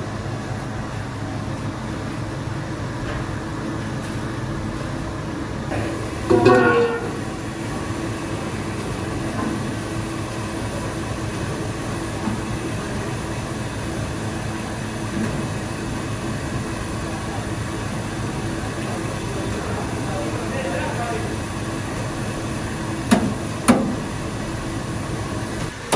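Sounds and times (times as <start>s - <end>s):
factory machinery running: 0.0s - 25.9s.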